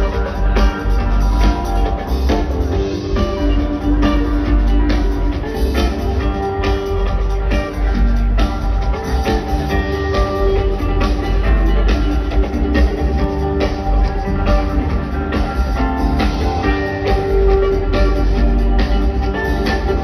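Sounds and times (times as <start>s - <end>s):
drum kit: 0.0s - 20.0s
electric guitar: 0.0s - 20.0s
keyboards: 0.0s - 20.0s.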